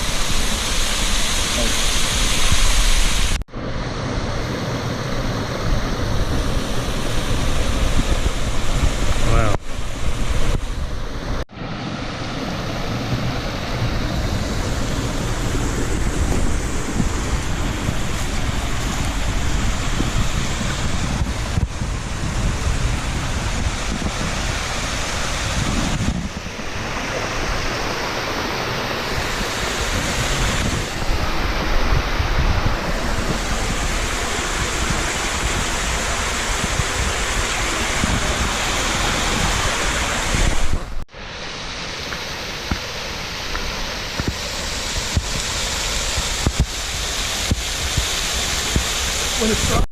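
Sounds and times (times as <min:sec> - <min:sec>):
wind rumble on microphone: 0:00.0 - 0:11.4, 0:12.0 - 0:41.0, 0:43.5 - 0:49.9
waterfall rushing: 0:00.0 - 0:49.9.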